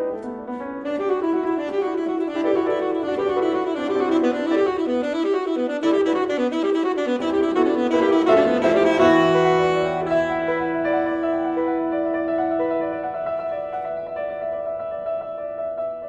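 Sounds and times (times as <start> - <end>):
saxophone: 0.0 - 14.1
piano: 0.0 - 16.0.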